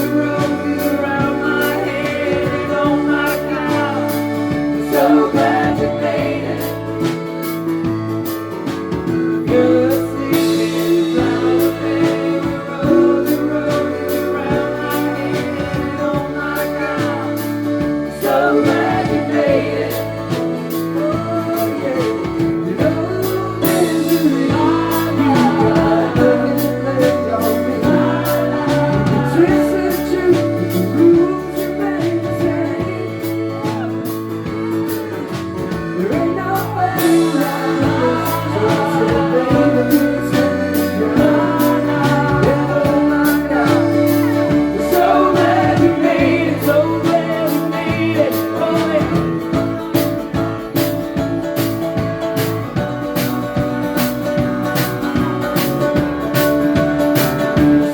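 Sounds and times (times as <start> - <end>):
bass line: 0.0 - 57.9
live band playing: 0.0 - 57.9
voices singing together: 0.0 - 57.9.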